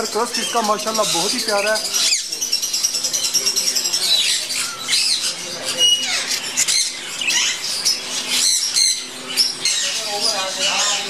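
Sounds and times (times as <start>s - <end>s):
budgerigars chattering and squawking: 0.0s - 11.0s.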